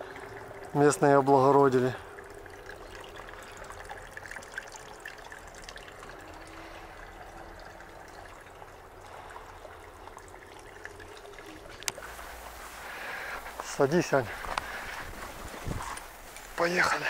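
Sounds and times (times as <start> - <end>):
spring water trickling and splashing: 0.0 - 17.0.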